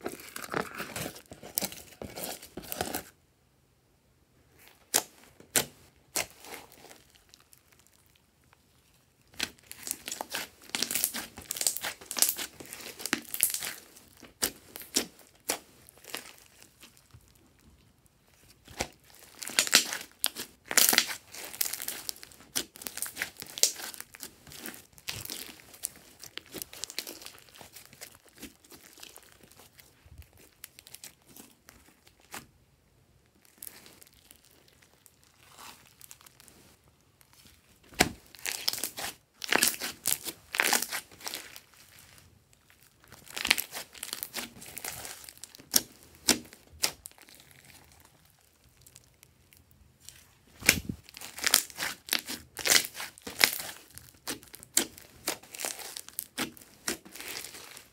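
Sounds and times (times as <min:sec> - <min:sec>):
slime crackling and popping: 0:04.7 - 0:08.6, 0:09.2 - 0:32.5, 0:33.4 - 0:36.5, 0:37.2 - 0:57.9.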